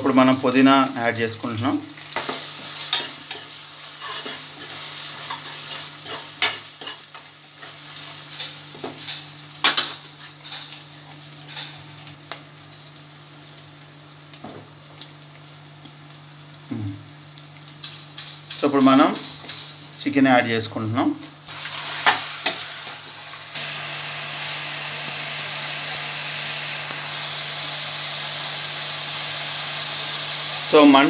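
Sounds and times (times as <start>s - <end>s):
food sizzling in hot oil: 0.1s - 31.0s.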